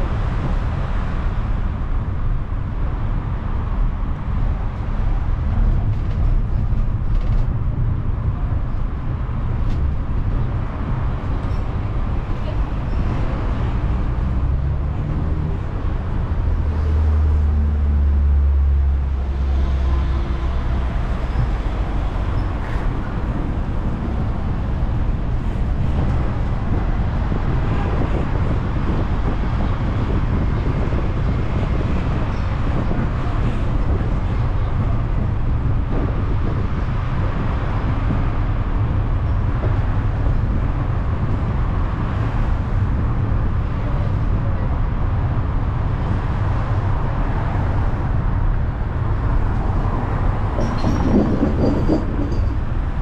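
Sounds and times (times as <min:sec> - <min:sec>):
vehicle road rumble: 0:00.0 - 0:53.0.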